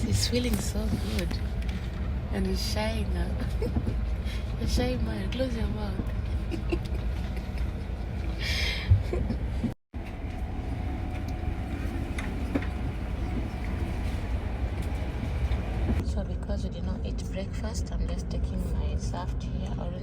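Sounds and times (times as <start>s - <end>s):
train carriage rumble: 0.0s - 20.0s.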